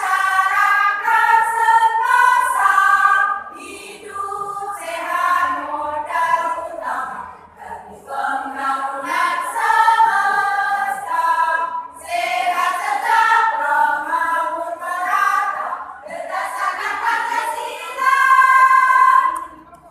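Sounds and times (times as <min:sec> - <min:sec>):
choir singing held notes: 0:00.0 - 0:19.5.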